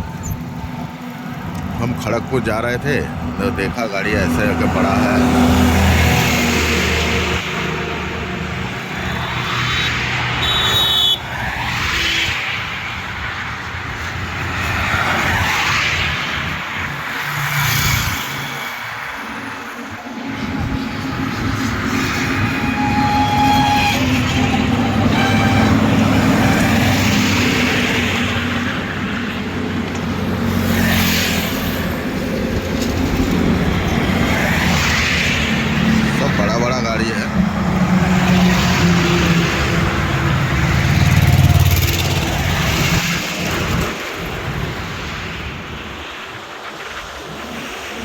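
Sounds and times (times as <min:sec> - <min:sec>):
trucks and vehicles passing: 0:00.0 - 0:48.0.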